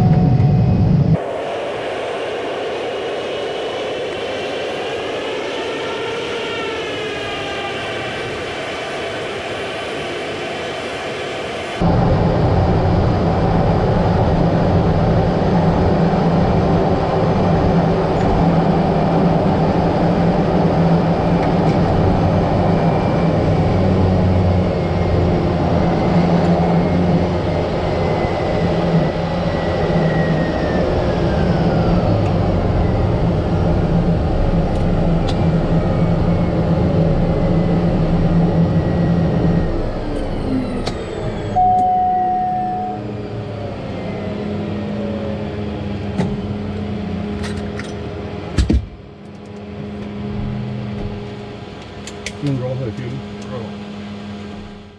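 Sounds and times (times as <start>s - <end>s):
high whine falling in pitch: 0.0s - 44.7s
turboprop engine drone: 0.0s - 54.9s.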